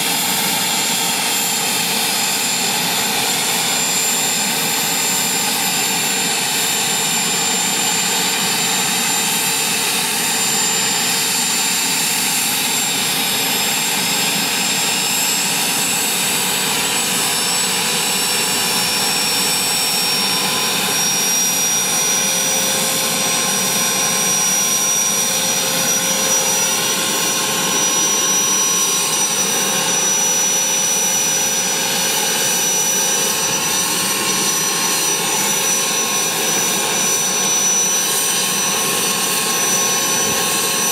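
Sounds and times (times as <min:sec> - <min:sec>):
helicopter turbine whine: 0:00.0 - 0:40.9.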